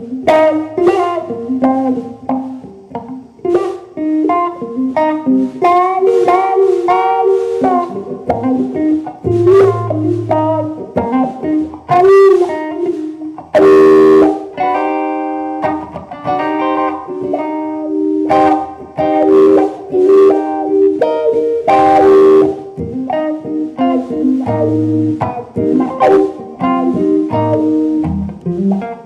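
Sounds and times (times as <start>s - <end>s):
plucked guitar notes: 0.0s - 29.0s
strummed guitar chord: 0.0s - 29.0s.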